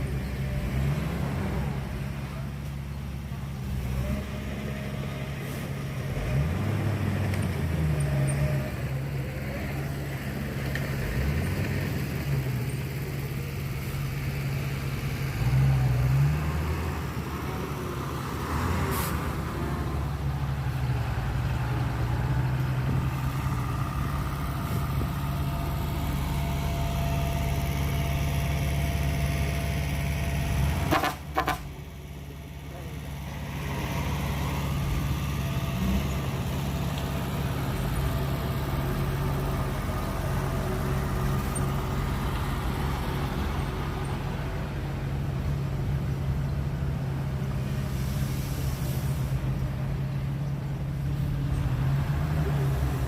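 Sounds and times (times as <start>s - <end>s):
heavy diesel engines revving: 0.0s - 53.0s.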